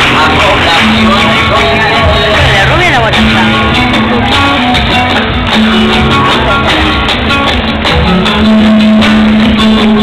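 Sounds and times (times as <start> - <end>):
dance music with strummed guitar: 0.0 - 10.0.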